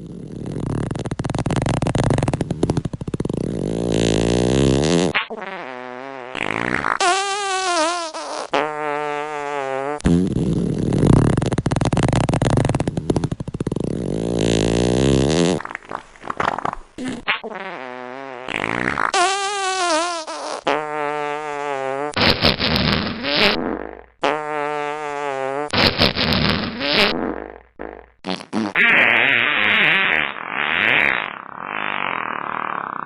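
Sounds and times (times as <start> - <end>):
fart sound effects: 0.0 - 33.0.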